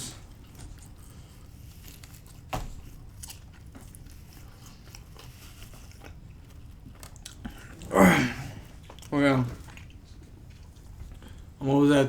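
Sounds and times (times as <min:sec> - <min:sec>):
person chewing pizza: 0:00.0 - 0:11.6.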